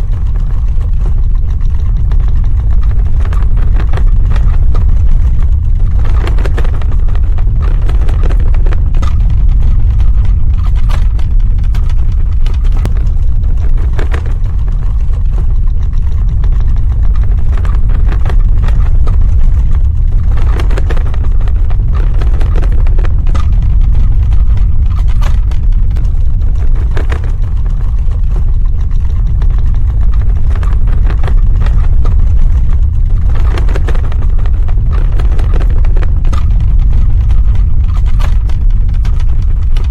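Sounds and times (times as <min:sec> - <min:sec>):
crackles: 0:00.0 - 0:39.9
deep rumble: 0:00.0 - 0:39.9.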